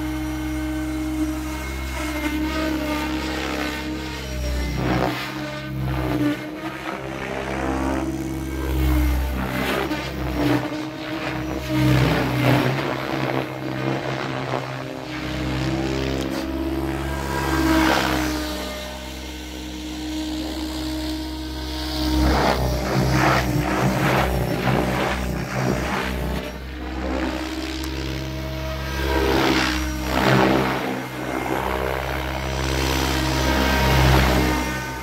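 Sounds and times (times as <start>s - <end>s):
rc helicopter rotor blades whirring: 0.0s - 35.0s.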